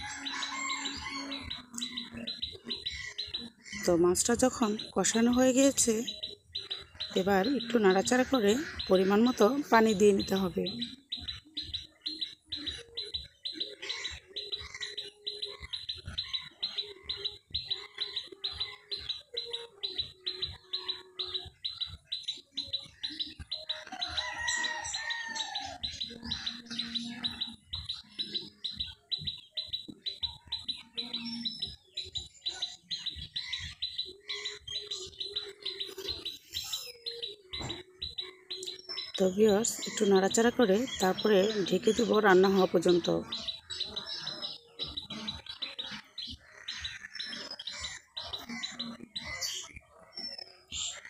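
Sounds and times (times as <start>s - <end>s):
bird chirping high: 0.0s - 51.0s
other bird calls: 0.0s - 51.0s.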